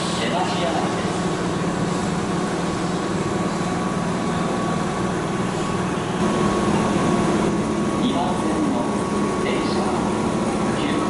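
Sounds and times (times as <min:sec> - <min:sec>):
electric train humming and whining: 0:00.0 - 0:11.0.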